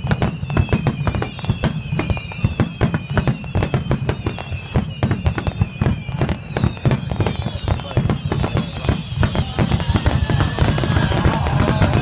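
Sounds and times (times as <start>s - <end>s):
fireworks bangs and crackles: 0.0s - 12.0s
thin wavering high tone: 0.1s - 12.0s.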